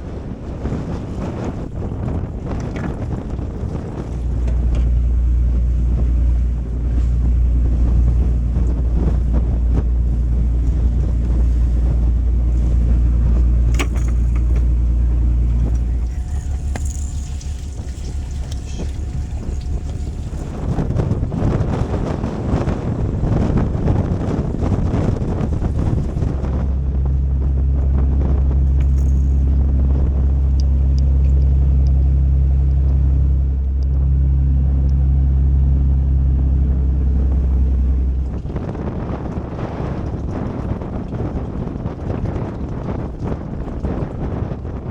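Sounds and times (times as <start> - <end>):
boat engine drone: 0.0 - 44.9
water noise: 0.0 - 44.9
wind on microphone: 0.0 - 44.9.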